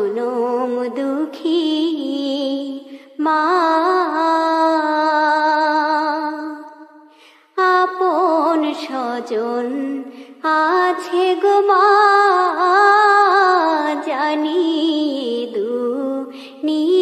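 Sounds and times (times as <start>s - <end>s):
person singing devotional song: 0.0s - 17.0s.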